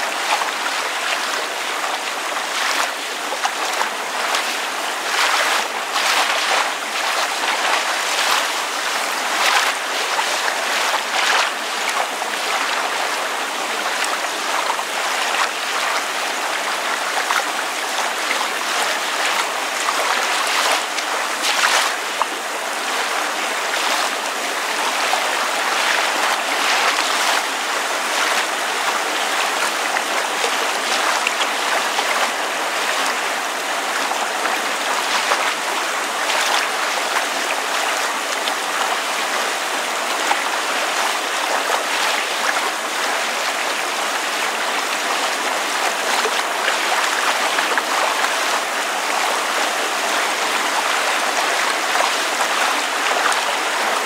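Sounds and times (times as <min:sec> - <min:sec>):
water lapping: 0:00.0 - 0:54.0.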